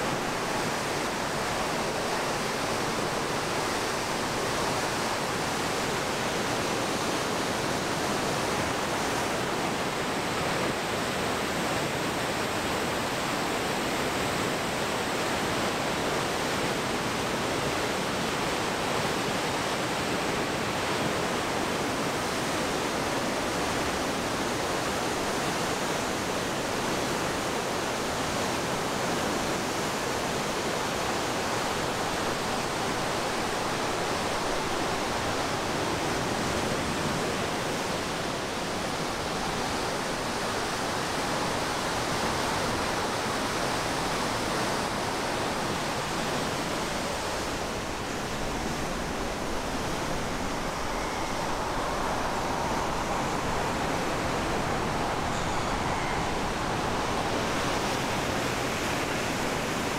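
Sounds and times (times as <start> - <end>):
river water rushing over weir: 0.0 - 59.9.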